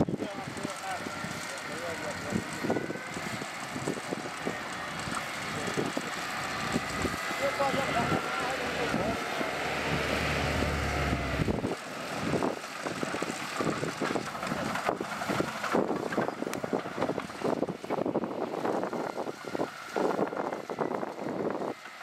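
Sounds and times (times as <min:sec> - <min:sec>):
wind buffeting microphone: 0:00.0 - 0:09.2, 0:09.9 - 0:21.8
diesel engine hum: 0:00.0 - 0:22.0.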